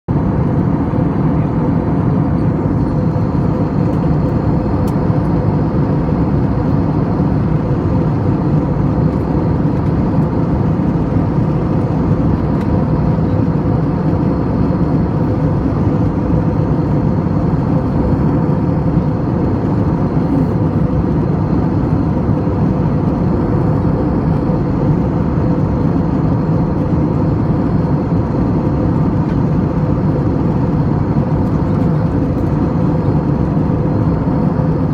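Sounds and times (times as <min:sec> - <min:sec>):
airplane cabin engine noise: 0:00.1 - 0:34.9.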